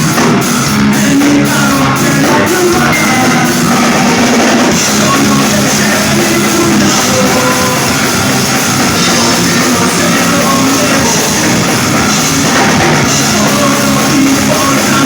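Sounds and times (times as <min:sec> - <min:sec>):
distorted electric guitars: 0:00.0 - 0:15.0
pounding drum kit: 0:00.0 - 0:15.0.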